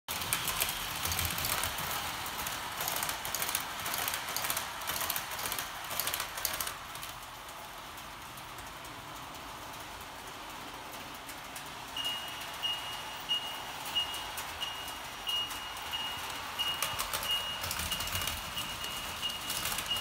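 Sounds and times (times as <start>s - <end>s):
model train wheels clattering: 0.1s - 20.0s
train rushing: 0.1s - 20.0s.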